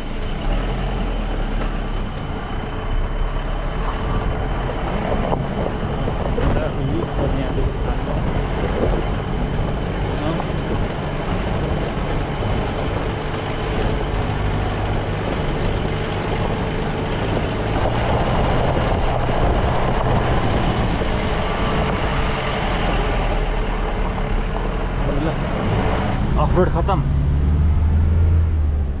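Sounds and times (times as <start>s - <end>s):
car engine running: 0.0s - 29.0s
road and cabin noise: 0.0s - 29.0s.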